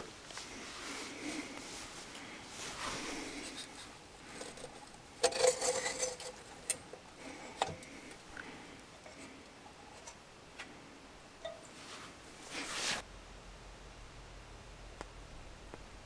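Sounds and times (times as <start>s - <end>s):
soft rustling: 0.0s - 13.1s.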